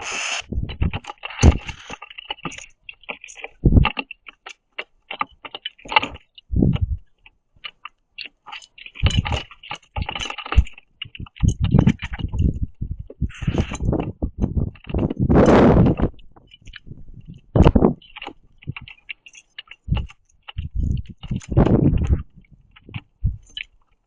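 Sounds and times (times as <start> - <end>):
birds pecking at seeds: 0.0 - 24.0.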